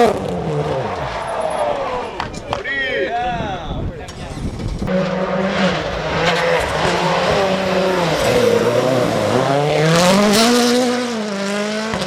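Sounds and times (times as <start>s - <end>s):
rally car engine revving: 0.0s - 2.0s, 4.3s - 12.0s.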